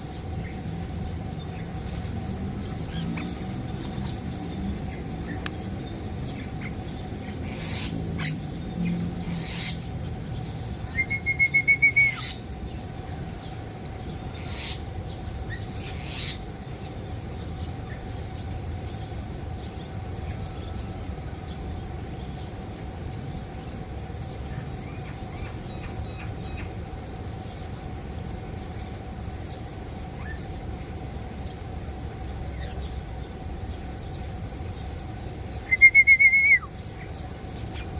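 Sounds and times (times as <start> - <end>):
low background hum: 0.0 - 37.9
songbirds calling: 0.0 - 37.9.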